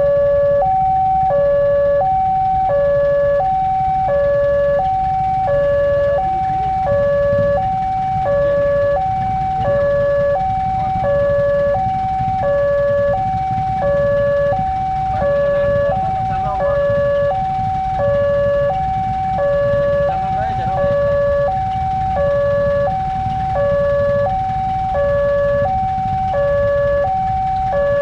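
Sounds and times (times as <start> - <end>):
level crossing two-tone alarm: 0.0 - 28.0
low rumble: 0.0 - 28.0.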